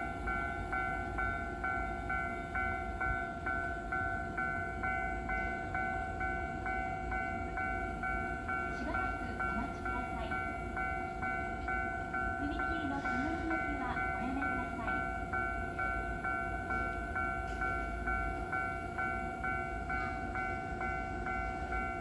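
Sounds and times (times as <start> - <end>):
level crossing bell ringing: 0.0 - 22.0.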